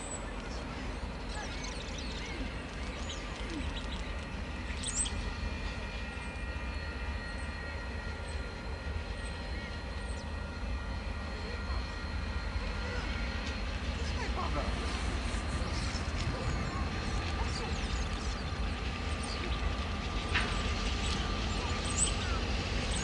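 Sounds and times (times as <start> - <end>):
distant locomotive rumble: 0.0 - 23.0.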